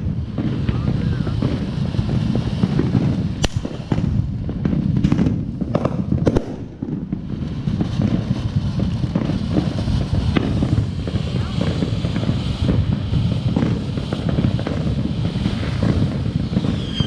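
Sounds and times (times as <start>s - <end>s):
firework bangs: 0.0s - 17.0s
firework fountain crackling: 0.0s - 17.0s.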